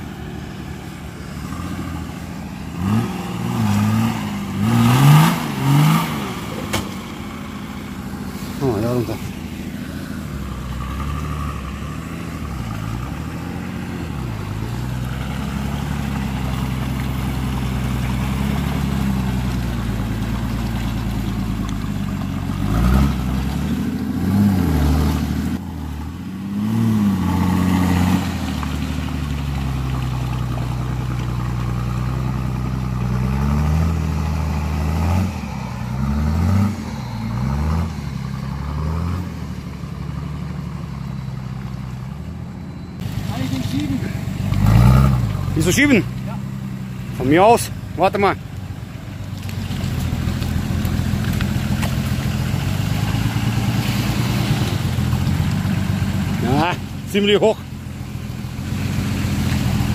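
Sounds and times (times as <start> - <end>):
engine revving in mud: 0.0 - 59.9.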